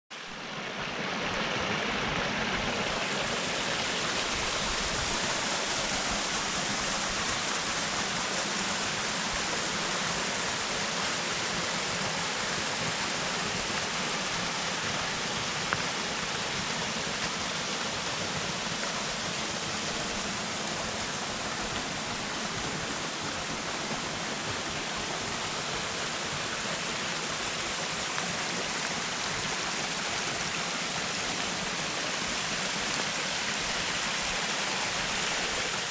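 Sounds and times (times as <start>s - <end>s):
stream and waterfall rushing: 0.1s - 35.9s.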